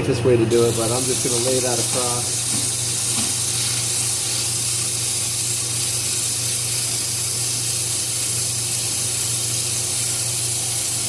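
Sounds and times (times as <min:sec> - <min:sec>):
sandpaper hissing on spinning wood: 0:00.5 - 0:11.0.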